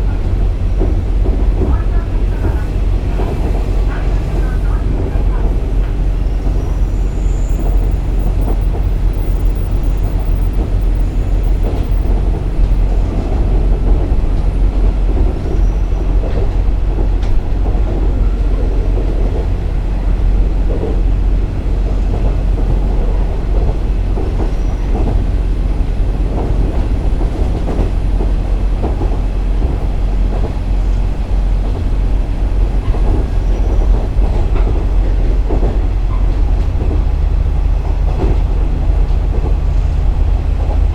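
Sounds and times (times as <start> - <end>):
diesel railcar rumble: 0.0 - 40.9
wheels clicking on track: 0.0 - 40.9.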